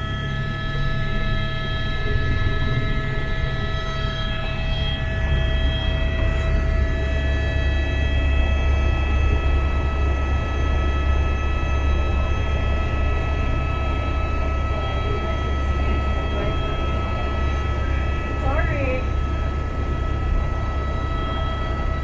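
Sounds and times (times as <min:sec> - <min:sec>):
helicopter rotor and engine drone: 0:00.0 - 0:22.0
steady whining tones: 0:00.0 - 0:22.0.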